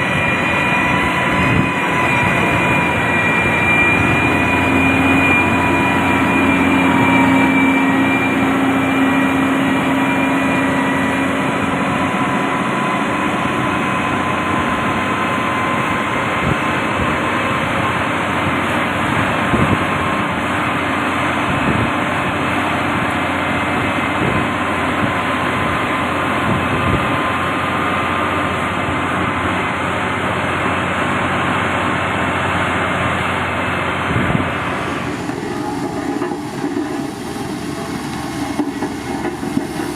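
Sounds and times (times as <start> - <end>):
engine whine: 0.0 - 39.9
heavy machine engine running: 0.0 - 39.9.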